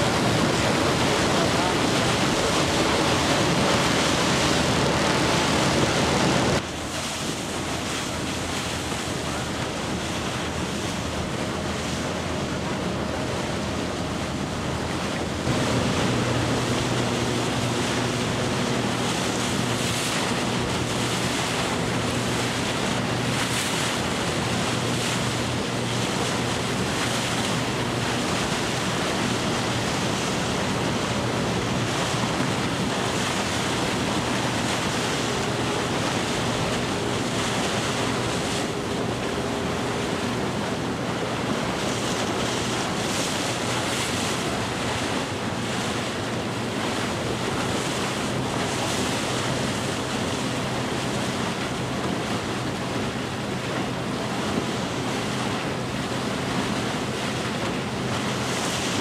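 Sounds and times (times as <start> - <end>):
boat engine drone: 0.0 - 59.0
water splashing past boat hull: 0.0 - 59.0
wind on microphone: 0.0 - 59.0.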